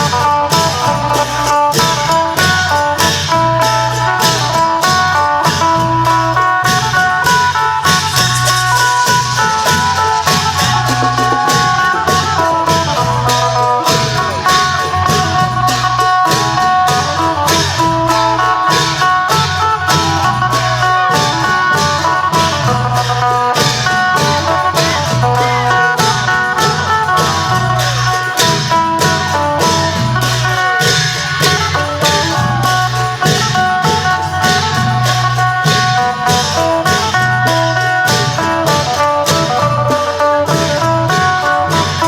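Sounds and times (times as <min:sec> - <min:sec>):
cymbals: 0:00.0 - 0:42.0
long drums: 0:00.0 - 0:42.0
plucked lute melody: 0:00.0 - 0:42.0.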